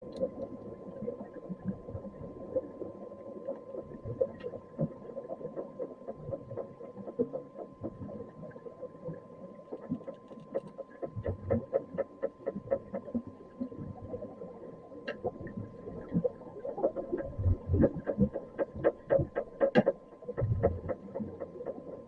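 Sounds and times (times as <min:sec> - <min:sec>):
muffled underwater crackling and popping: 0:00.0 - 0:22.0.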